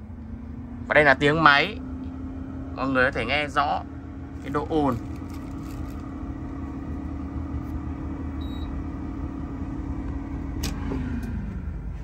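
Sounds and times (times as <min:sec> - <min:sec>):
air fryer fan humming: 0:00.0 - 0:12.0.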